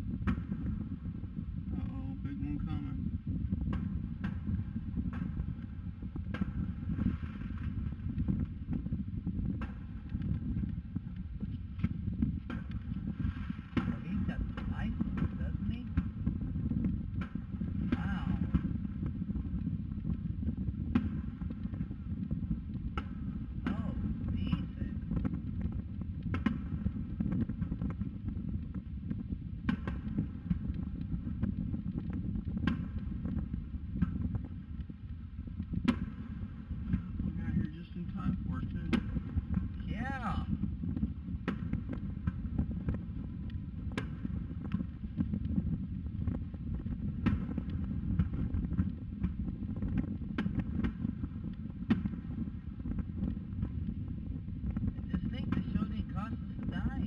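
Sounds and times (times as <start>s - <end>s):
steady low rumble: 0.0s - 57.0s
distant firework bangs: 0.2s - 1.0s, 3.6s - 19.8s, 20.8s - 22.2s, 22.9s - 28.1s, 29.0s - 31.4s, 32.1s - 34.5s, 35.8s - 53.8s.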